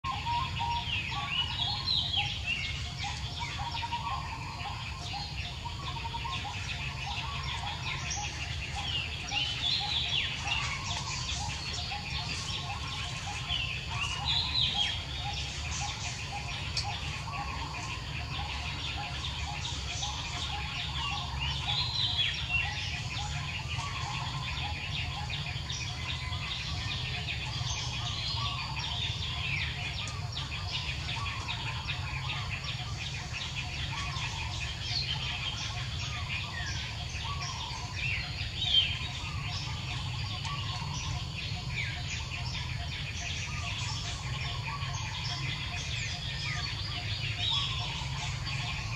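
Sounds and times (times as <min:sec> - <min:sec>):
birds chirping: 0:00.0 - 0:48.9
sharp high bird calls: 0:00.0 - 0:48.9.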